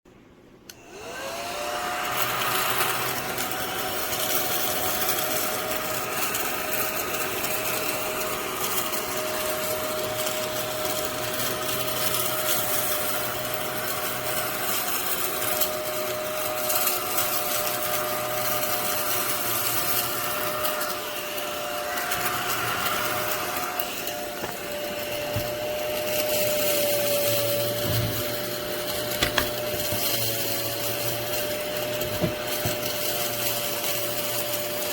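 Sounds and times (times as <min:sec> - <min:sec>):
small vacuum motor whining: 0:00.7 - 0:34.9.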